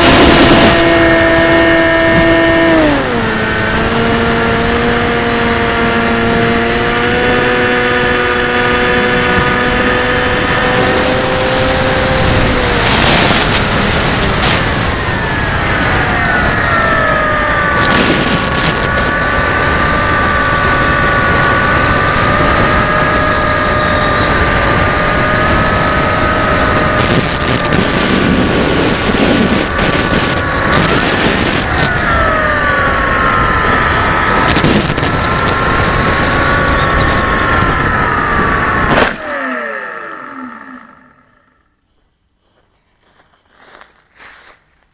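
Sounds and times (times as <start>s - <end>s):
heavy wind noise: 0.0s - 40.4s
model aircraft motor whine: 0.0s - 41.8s.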